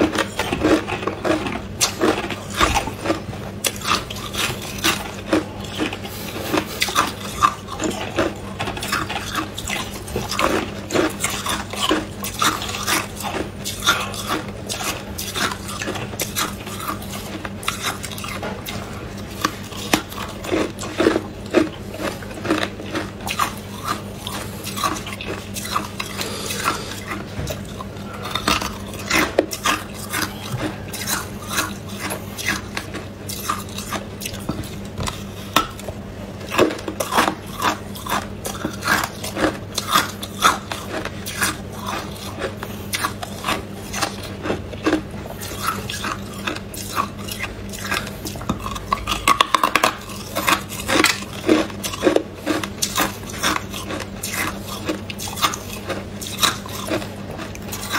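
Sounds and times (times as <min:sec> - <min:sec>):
ice crunching between teeth: 0:00.0 - 0:57.9.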